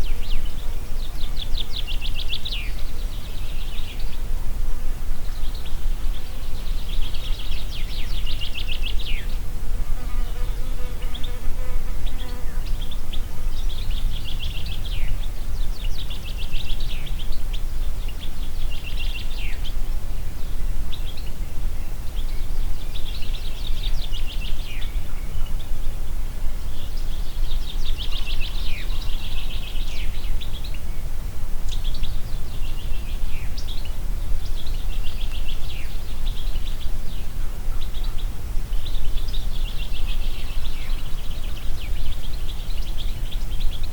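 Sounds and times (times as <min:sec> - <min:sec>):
low wind noise: 0:00.0 - 0:43.9.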